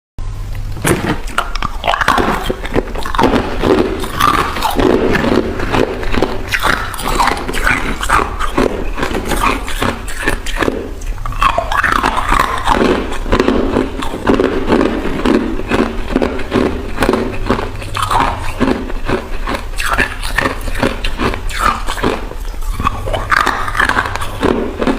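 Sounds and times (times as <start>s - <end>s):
person crunching ice: 0.9s - 24.9s.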